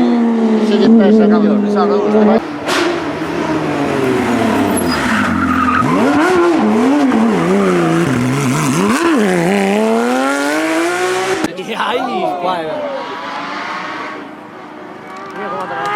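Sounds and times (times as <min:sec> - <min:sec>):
racing car engine revving: 0:00.0 - 0:11.6, 0:12.7 - 0:15.9.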